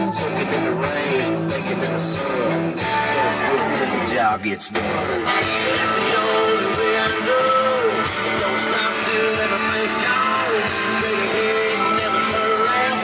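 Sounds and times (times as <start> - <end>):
rock song through car stereo: 0.0 - 13.0.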